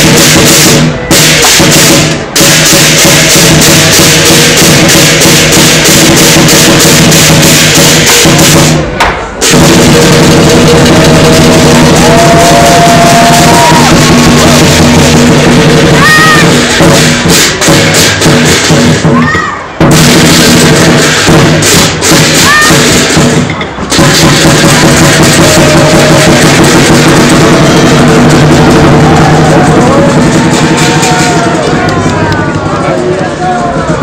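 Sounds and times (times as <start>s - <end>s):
clashing hand cymbals: 0.0s - 19.2s, 19.9s - 34.0s
drum beating: 0.0s - 34.0s.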